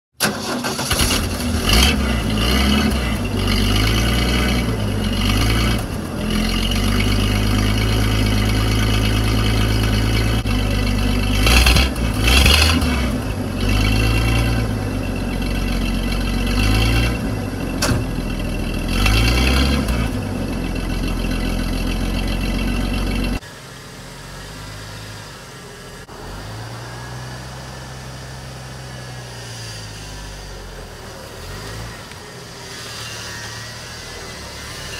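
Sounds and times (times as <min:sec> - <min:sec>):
truck engine revving: 0:00.2 - 0:34.9.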